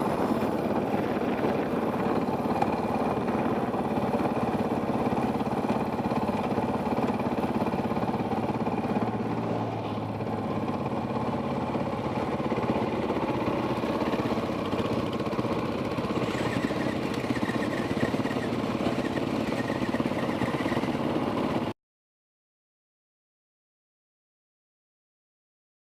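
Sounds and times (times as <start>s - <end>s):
dirt bike engine running: 0.0s - 21.7s.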